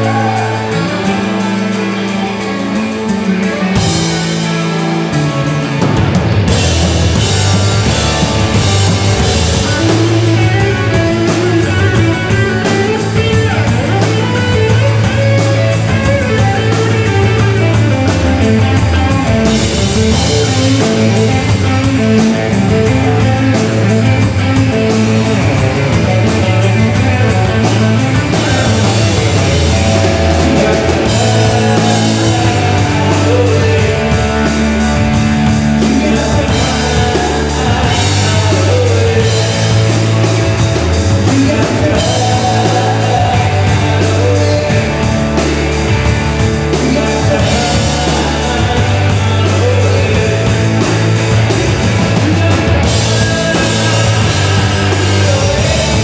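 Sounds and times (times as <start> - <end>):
drum kit with crashing cymbals: 0.0 - 56.0
electric bass: 0.0 - 56.0
electric guitars: 0.0 - 56.0.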